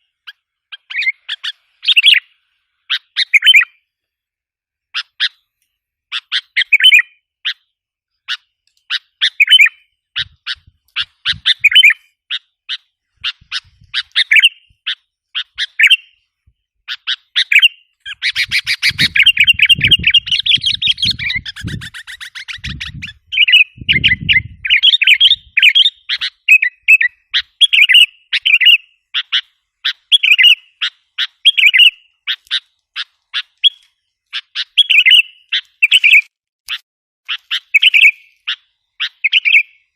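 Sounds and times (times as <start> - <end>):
bird chirping and chattering: 0.2 - 3.8, 4.9 - 5.5, 6.1 - 16.2, 16.8 - 39.9.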